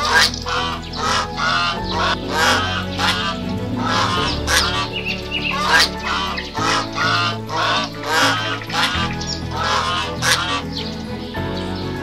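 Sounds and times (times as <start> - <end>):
waterfowl honking: 0.0 - 10.9
music with low chords: 0.0 - 12.0.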